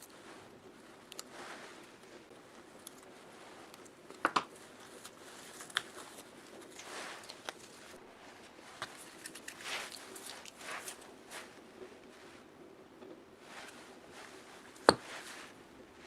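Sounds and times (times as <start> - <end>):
soft rubbing sounds: 0.1 - 12.6, 13.4 - 16.0.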